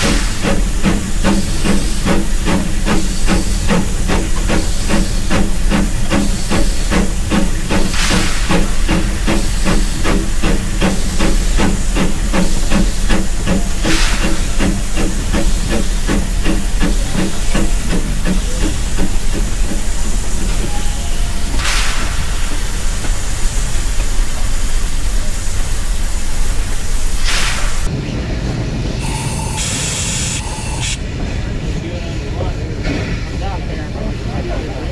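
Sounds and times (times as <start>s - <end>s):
steam hissing: 0.0s - 27.9s, 29.0s - 31.0s
steam locomotive chuffing: 0.0s - 34.9s.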